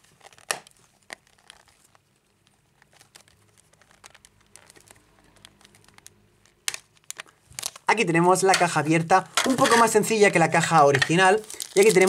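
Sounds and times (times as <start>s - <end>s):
cellophane crinkling: 0.0s - 12.0s.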